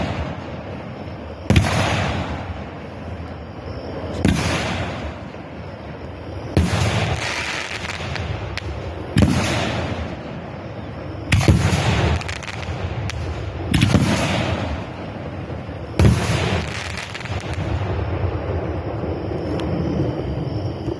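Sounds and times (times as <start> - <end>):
firework bangs: 0.0 - 20.4
hissing crackle: 0.0 - 20.9
steady background hiss: 0.0 - 20.9.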